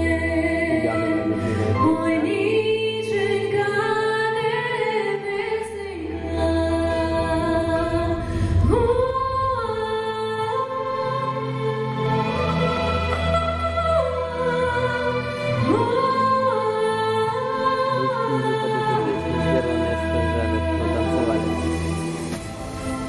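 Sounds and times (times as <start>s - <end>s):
woman singing into microphone: 0.0s - 23.0s.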